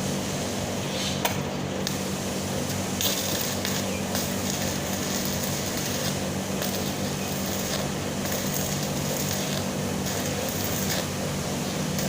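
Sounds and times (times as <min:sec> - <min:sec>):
constant low hum: 0:00.0 - 0:12.0
welding arc crackling: 0:00.0 - 0:12.0.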